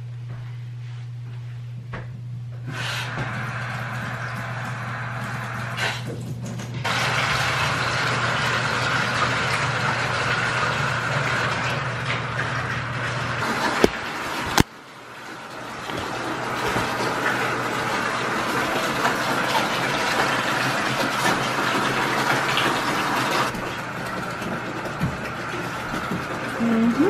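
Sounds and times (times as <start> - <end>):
low motor hum: 0.0 - 21.8, 23.2 - 27.0.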